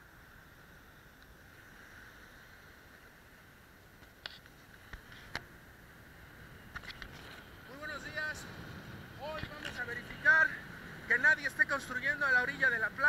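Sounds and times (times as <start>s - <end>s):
small waves breaking: 0.0s - 13.0s
wind hiss: 0.0s - 13.0s.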